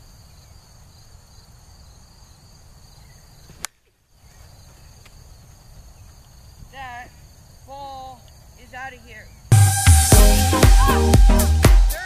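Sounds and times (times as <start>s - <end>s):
crickets chirring: 0.0s - 10.1s.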